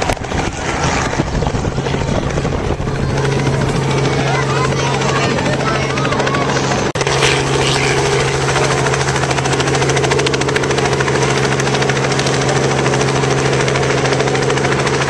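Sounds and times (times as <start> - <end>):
helicopter engine drone: 0.0 - 15.0
helicopter rotor chop: 0.0 - 15.0.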